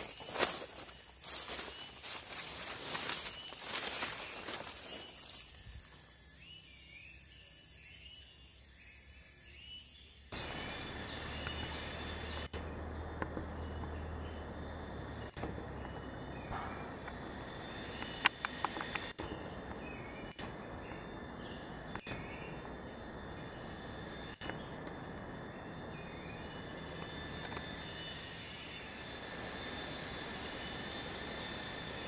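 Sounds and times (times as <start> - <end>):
insects droning: 0.0 - 32.0.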